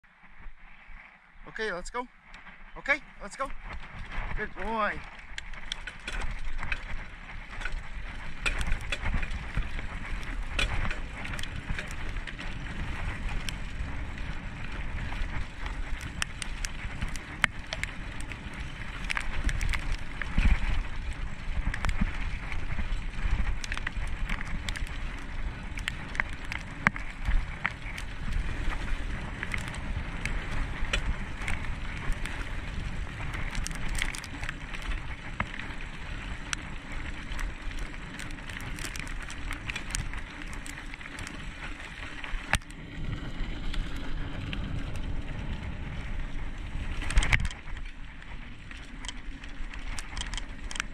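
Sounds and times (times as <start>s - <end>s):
bike tyres rumbling on dirt: 0.0s - 50.9s
bike clicks and rattles: 2.2s - 50.9s.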